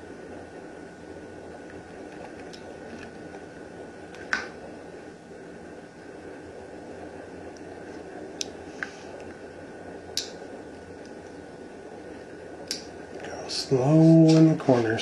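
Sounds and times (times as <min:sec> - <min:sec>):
room noise: 0:00.0 - 0:15.0.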